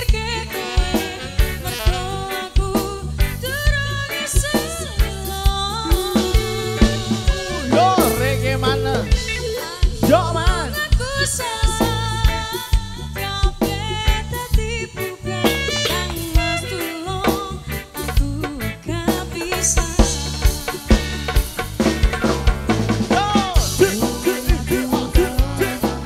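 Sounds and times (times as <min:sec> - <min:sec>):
woman singing: 0:00.0 - 0:21.5, 0:23.1 - 0:26.0
heavy bass: 0:00.0 - 0:26.0
steady drum beat: 0:00.0 - 0:26.0.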